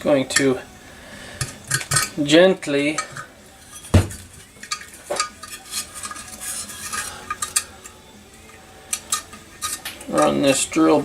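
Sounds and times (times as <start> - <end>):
metal tools clinking and scraping: 1.4 - 11.0.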